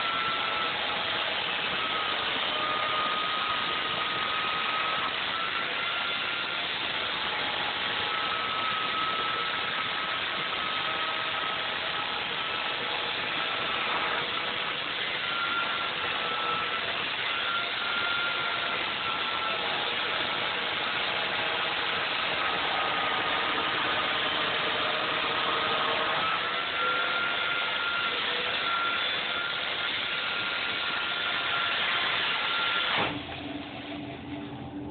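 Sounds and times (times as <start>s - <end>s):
electric chainsaw cutting foam: 0.0s - 34.1s.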